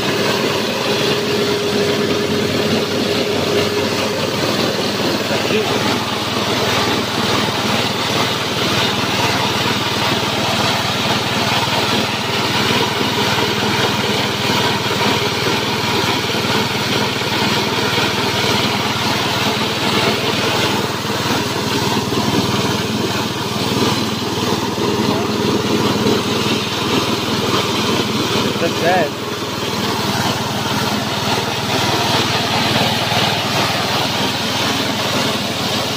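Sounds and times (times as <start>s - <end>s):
grinder grinding feed: 0.0s - 35.9s
small petrol engine running: 0.0s - 35.9s.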